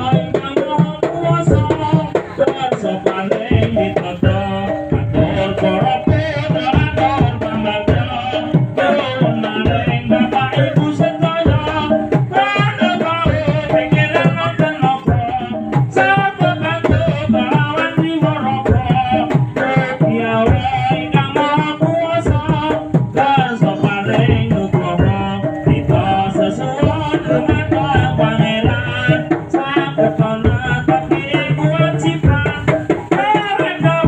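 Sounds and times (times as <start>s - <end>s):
hand drums in fast rhythm: 0.0s - 34.0s.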